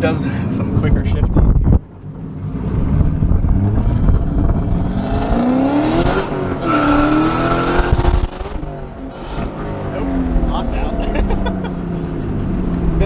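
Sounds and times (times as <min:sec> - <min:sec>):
car engine accelerating hard: 0:02.1 - 0:13.0.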